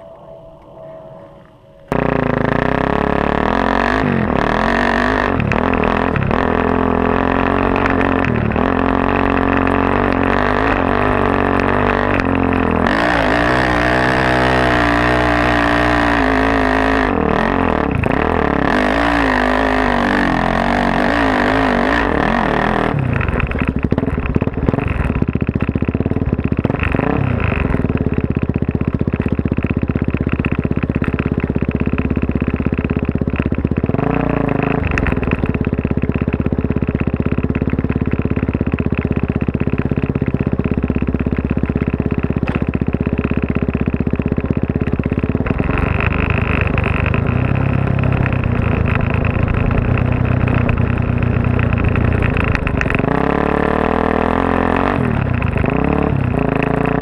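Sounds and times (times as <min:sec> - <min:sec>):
dirt bike engine running hard: 0:01.9 - 0:57.0.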